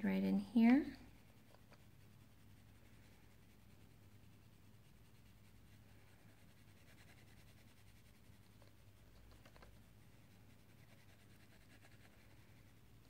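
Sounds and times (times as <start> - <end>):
low steady hum: 0.0 - 13.0
crayon scratching on paper: 0.9 - 12.8.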